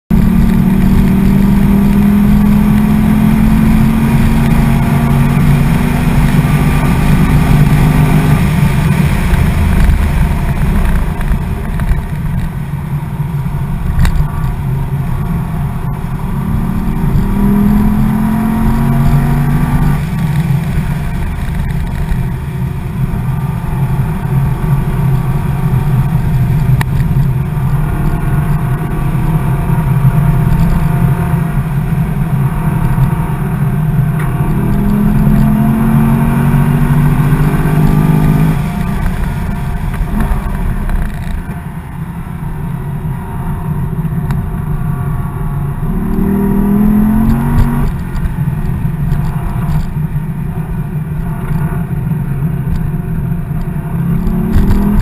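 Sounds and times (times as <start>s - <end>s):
road and tyre noise: 0.0s - 55.0s
car engine accelerating: 0.1s - 55.0s.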